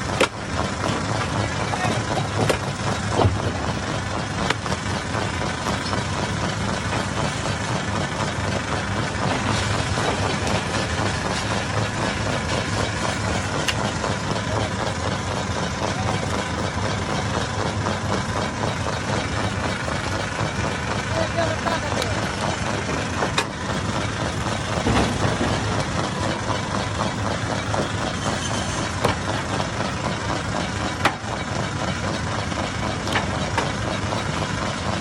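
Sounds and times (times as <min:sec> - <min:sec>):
stone crusher running: 0:00.0 - 0:35.0.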